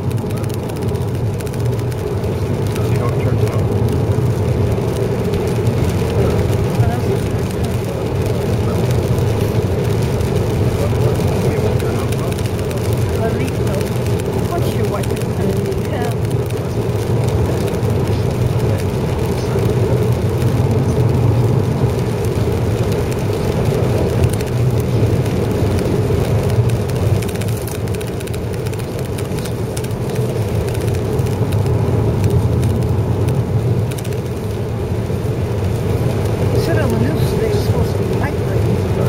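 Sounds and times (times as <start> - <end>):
car road noise hum: 0.0 - 39.0
tyres hissing on wet pavement: 0.0 - 39.0.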